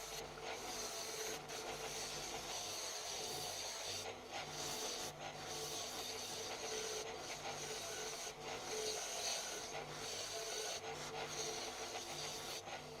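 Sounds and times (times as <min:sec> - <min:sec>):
file rasping on wood: 0:00.0 - 0:13.0.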